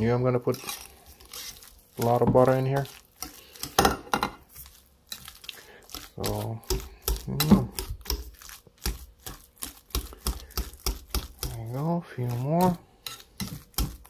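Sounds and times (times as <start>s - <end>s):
whisk scraping a glass bowl: 0.0s - 14.0s.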